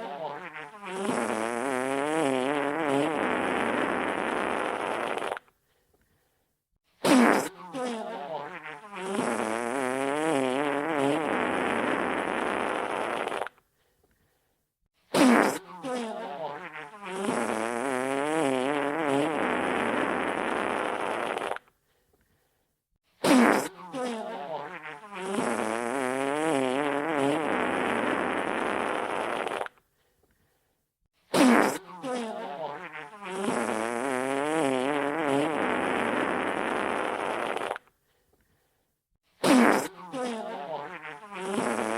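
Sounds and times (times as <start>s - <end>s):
wet fart sound effect: 0.0s - 5.5s, 7.0s - 13.6s, 15.1s - 21.7s, 23.2s - 29.8s, 31.3s - 37.9s, 39.4s - 41.9s.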